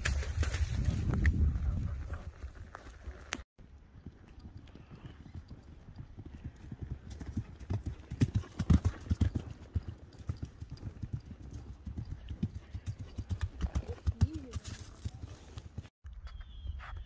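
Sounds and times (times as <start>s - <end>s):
horse hoofbeats on grass: 0.0s - 15.9s.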